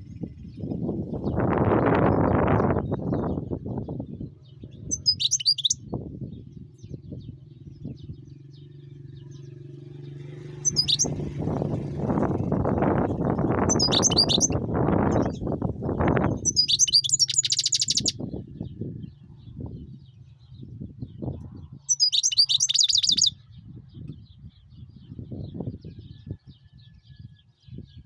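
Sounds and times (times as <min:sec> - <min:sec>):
finch singing: 0:00.0 - 0:05.9, 0:06.6 - 0:20.5, 0:21.1 - 0:26.4.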